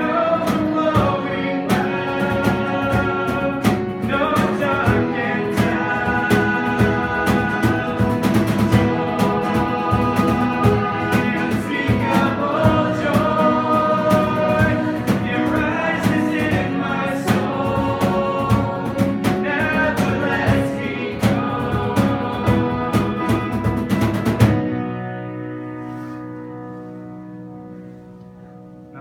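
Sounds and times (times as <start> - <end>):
drum kit beat: 0.0 - 24.8
live worship band playing: 0.0 - 29.0.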